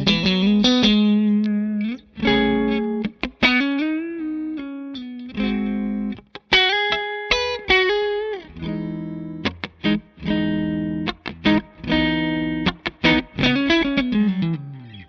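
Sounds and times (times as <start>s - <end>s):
guitar melody: 0.0s - 15.0s.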